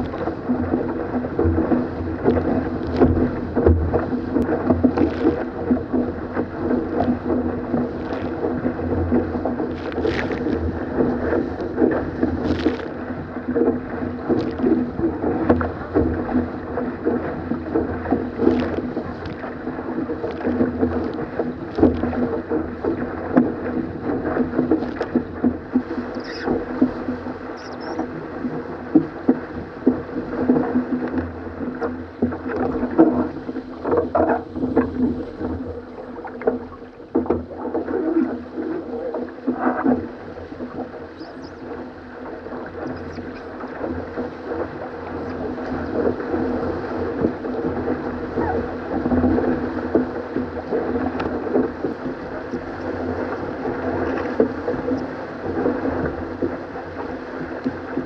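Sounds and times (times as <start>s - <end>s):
water rushing along hull: 0.0s - 58.0s.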